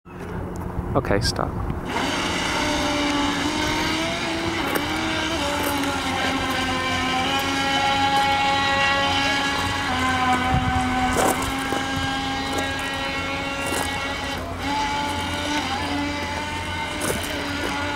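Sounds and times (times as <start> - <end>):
model boat motor whining: 1.7 - 17.9
hull spraying water: 1.8 - 17.9.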